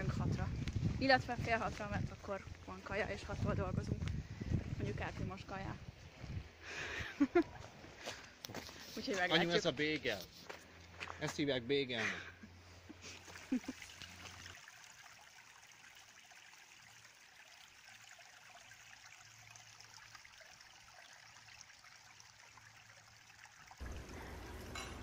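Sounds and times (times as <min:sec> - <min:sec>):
brook trickling over stones: 0:00.0 - 0:11.3, 0:12.7 - 0:25.0.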